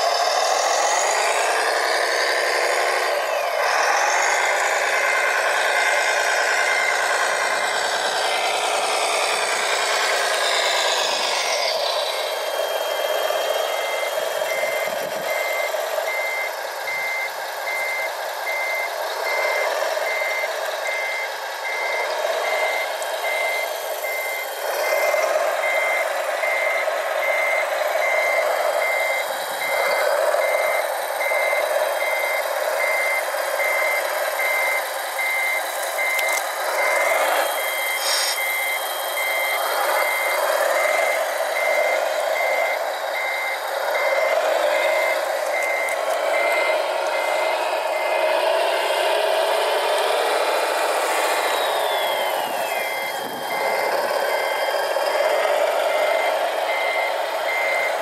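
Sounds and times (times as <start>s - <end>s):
reversing beeper: 0.0s - 58.0s.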